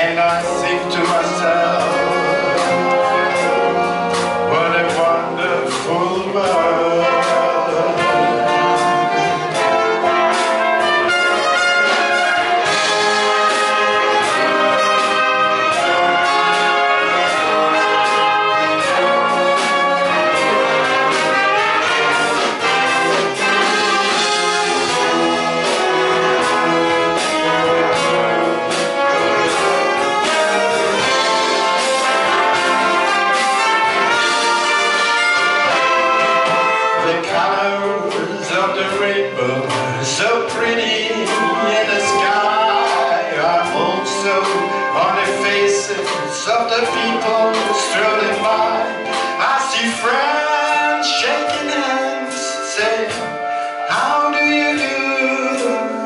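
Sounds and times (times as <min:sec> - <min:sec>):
wind band playing: 0:00.0 - 0:56.0.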